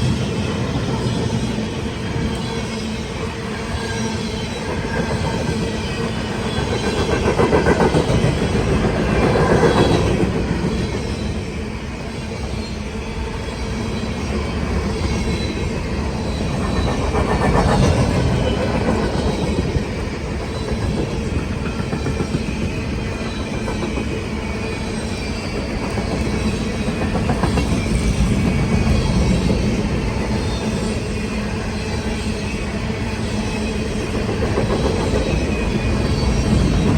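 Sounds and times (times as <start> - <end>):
freight train cars rolling past: 0.0 - 36.9.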